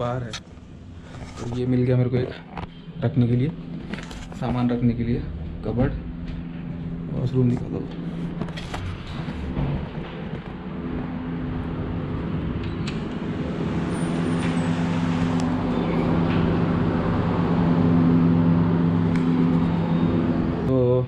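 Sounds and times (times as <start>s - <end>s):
motor hum: 0.4s - 20.7s.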